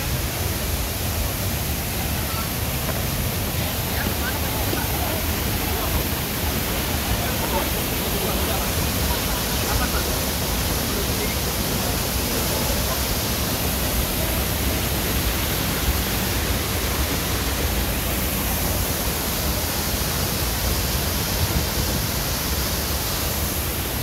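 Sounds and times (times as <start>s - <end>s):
waterfall pouring: 0.0s - 24.0s.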